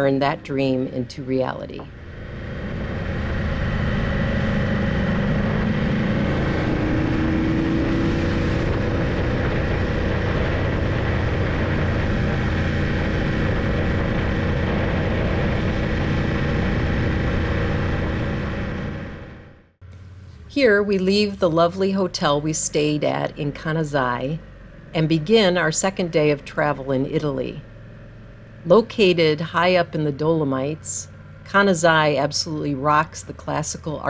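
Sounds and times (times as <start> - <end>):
wind and road noise: 0.0 - 21.3, 22.7 - 34.0
motorcycle engine running: 1.8 - 22.4, 23.4 - 33.5.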